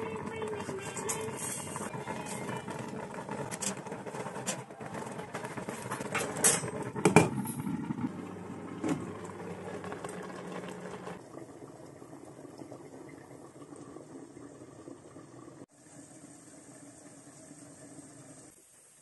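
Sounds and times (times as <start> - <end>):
pot boiling with bubbling hiss: 0.0 - 19.0.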